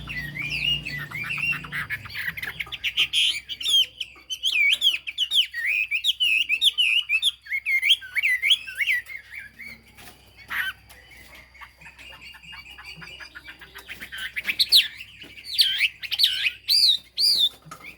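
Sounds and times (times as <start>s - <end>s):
bird fast chattering notes: 0.0s - 7.3s, 10.4s - 17.6s
songbird whistling: 0.0s - 17.9s.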